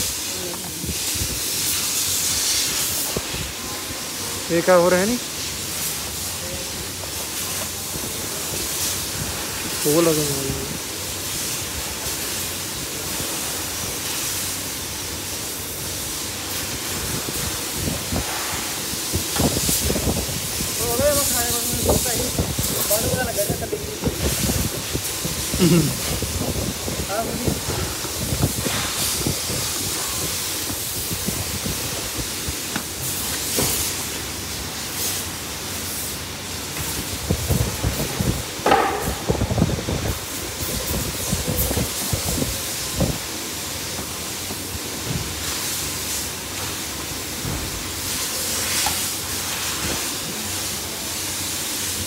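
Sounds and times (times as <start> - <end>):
rushing hiss: 0.0 - 52.0.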